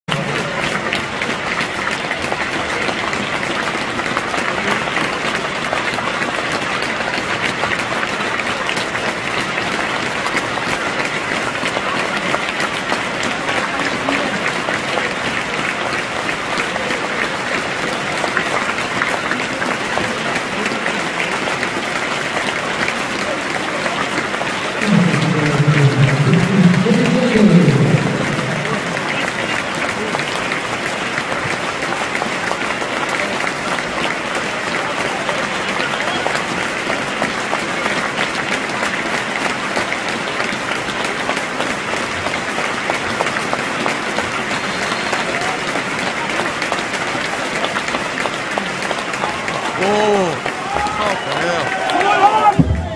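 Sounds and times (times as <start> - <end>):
stadium crowd applauding: 0.1 - 52.9.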